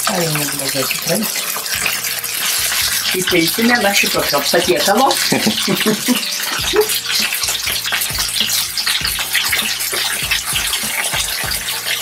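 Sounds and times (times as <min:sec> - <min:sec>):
chicken wings sizzling in oil: 0:00.0 - 0:12.0.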